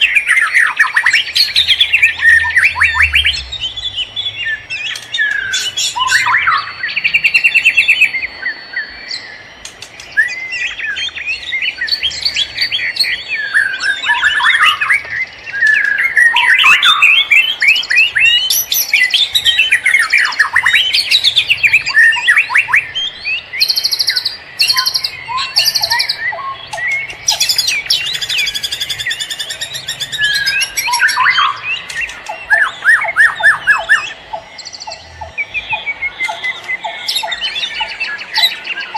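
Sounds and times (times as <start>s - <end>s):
forest birds singing: 0.0s - 38.9s.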